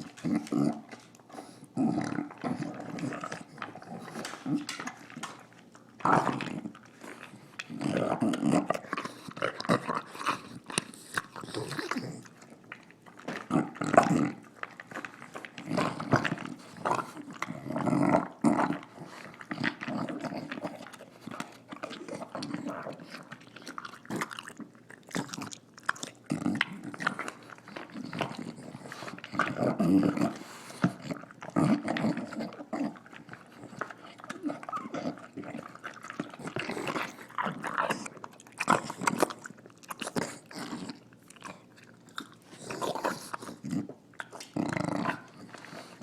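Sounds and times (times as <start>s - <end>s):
dog snorting and snarling: 0.0s - 5.1s, 6.0s - 12.4s, 13.3s - 41.6s, 42.5s - 46.0s
chewing clicks: 0.0s - 46.0s.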